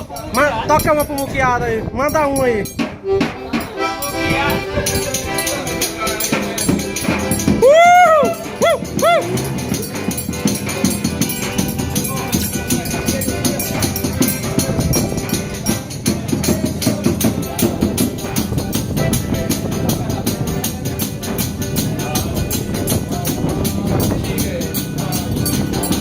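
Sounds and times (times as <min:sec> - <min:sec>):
accordion: 0:00.0 - 0:26.0
shaken and struck percussion: 0:02.0 - 0:26.0.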